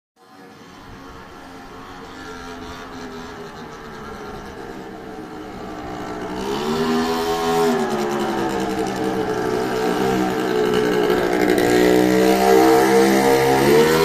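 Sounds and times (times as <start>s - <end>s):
loud motorcycle engine revving: 0.5s - 14.0s.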